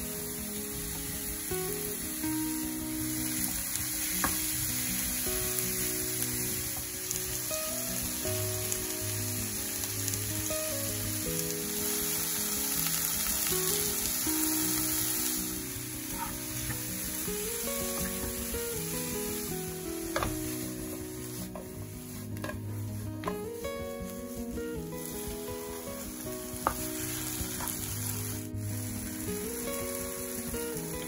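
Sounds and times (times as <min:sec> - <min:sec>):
background music: 0:00.0 - 0:31.0
vegetables sizzling in a frying pan: 0:00.0 - 0:31.0.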